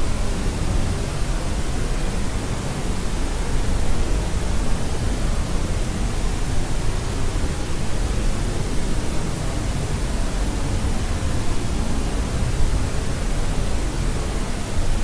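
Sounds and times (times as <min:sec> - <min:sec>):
steady white noise hiss: 0:00.0 - 0:15.0.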